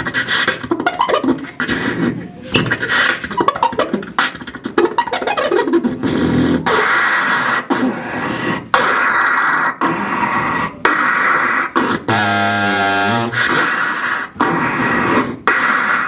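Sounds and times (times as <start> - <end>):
person beatboxing into microphone: 0.0 - 16.0.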